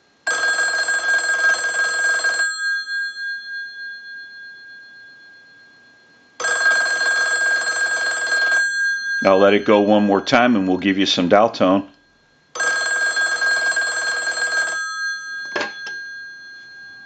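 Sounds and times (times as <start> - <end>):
telephone bell ringing: 0.3 - 10.0, 12.6 - 17.0.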